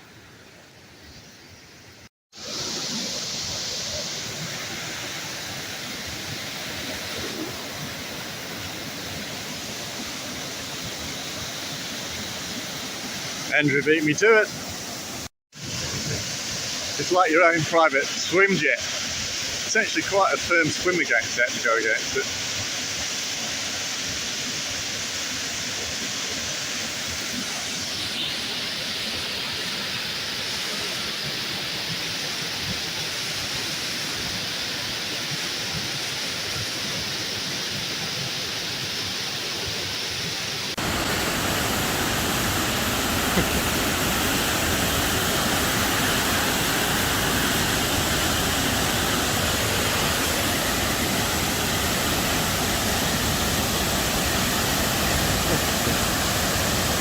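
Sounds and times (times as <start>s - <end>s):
waterfall rushing: 2.4s - 57.0s.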